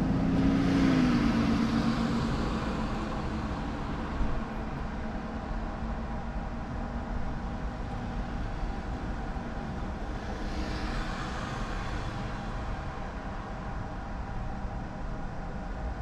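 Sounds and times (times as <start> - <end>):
vehicle and road rumble: 0.0 - 16.0.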